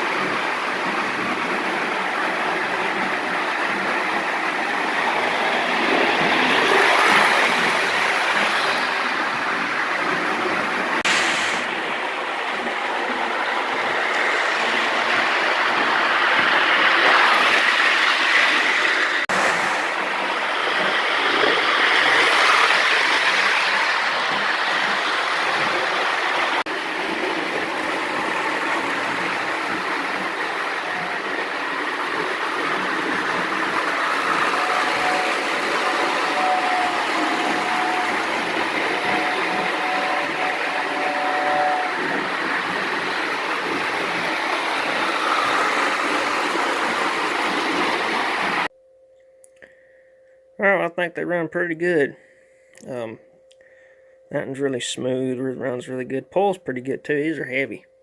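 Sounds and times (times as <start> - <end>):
toy train rolling rumble: 0.0 - 48.7
train wheel clatter: 0.0 - 48.7.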